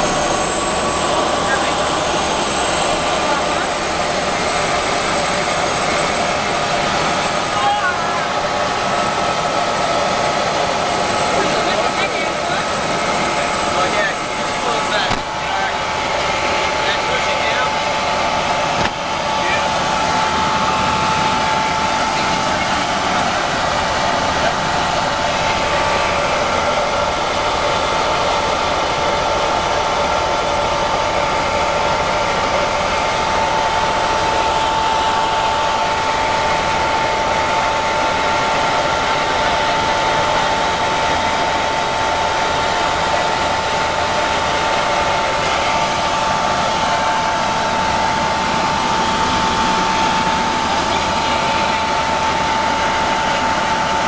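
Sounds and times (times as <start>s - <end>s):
helicopter engine and rotor from cabin: 0.0s - 54.0s.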